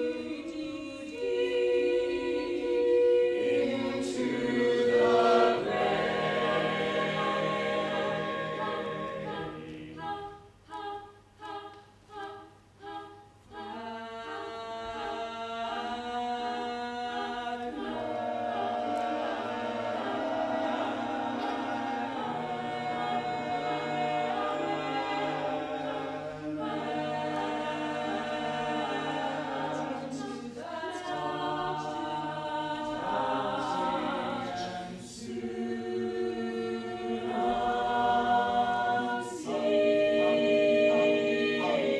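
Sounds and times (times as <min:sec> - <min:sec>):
choir singing in harmony: 0:00.0 - 0:41.9.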